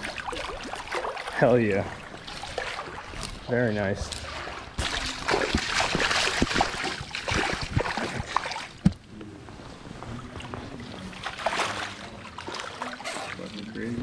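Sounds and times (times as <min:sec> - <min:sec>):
water lapping: 0:00.0 - 0:14.0
water splashing and sloshing: 0:00.0 - 0:14.0.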